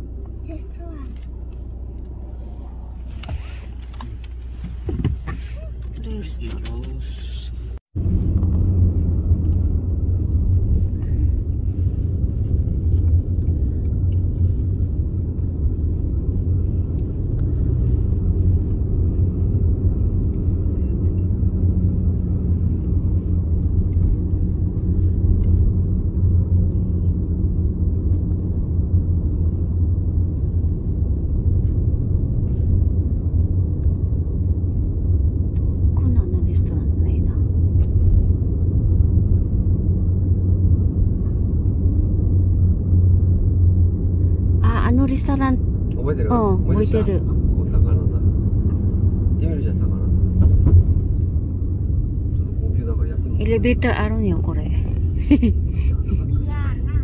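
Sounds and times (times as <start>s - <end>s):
car interior road rumble: 0.0s - 57.0s.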